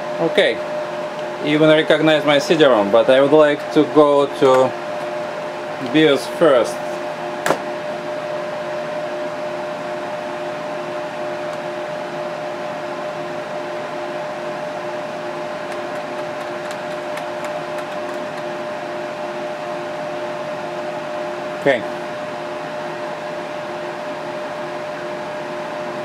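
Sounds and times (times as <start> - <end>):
computer fans whirring: 0.0 - 26.0.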